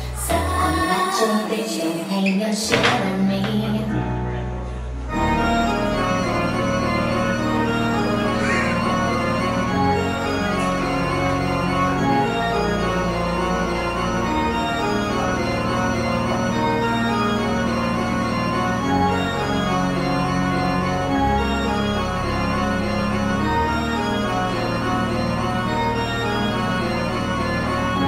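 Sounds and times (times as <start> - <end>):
sustained organ-like keyboard chords: 2.8 - 28.0.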